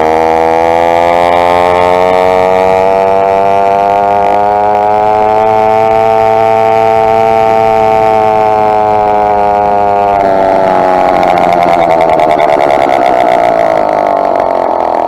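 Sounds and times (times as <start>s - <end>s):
two-stroke bike engine running: 0.0s - 15.0s.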